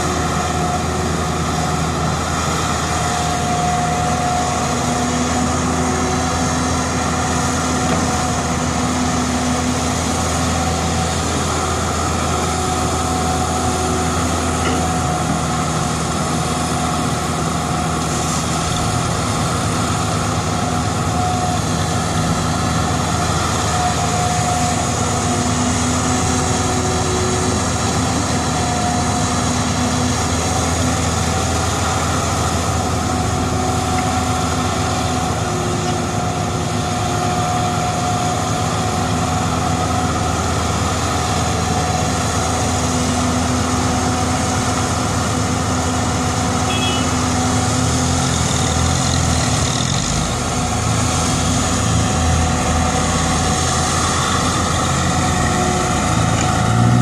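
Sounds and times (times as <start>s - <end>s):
dump truck engine pulling away: 0.0s - 57.0s
excavator diesel engine running: 0.0s - 57.0s.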